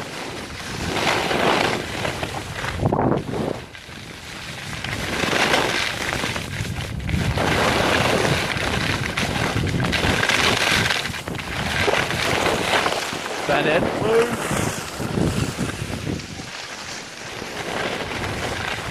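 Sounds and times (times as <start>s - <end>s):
skis scraping over snow: 0.0s - 18.9s
wind rushing over microphone: 0.0s - 18.9s.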